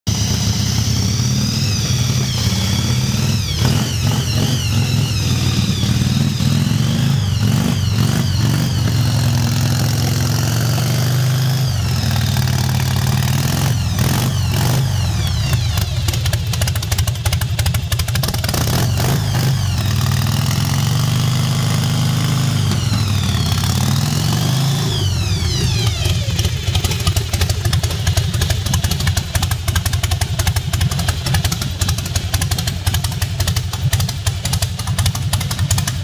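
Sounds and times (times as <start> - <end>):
motorcycle engines idling: 0.1 - 36.0.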